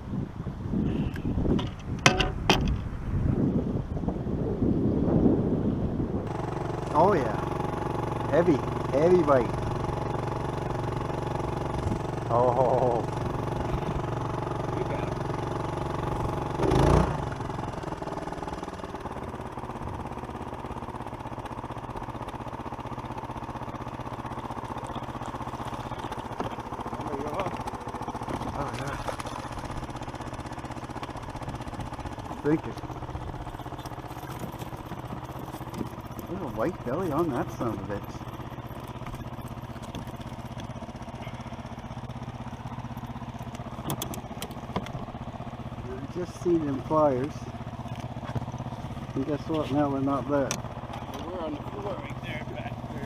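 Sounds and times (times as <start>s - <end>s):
small engine idling: 6.2s - 53.0s.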